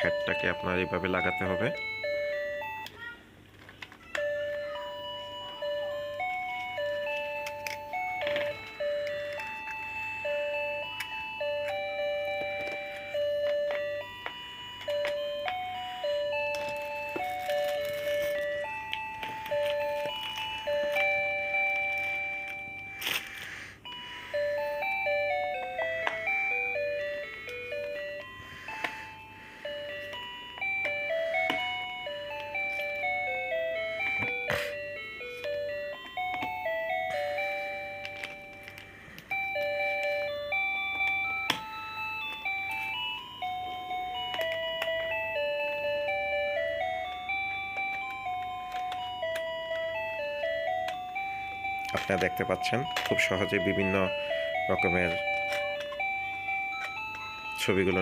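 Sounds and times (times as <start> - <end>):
electronic beeping melody: 0.0 - 3.0, 4.2 - 23.1, 23.8 - 58.0.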